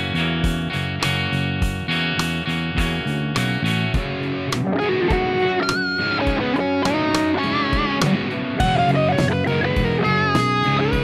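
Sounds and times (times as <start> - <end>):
electric guitar lead: 0.0 - 11.0
steady drum beat: 0.0 - 11.0.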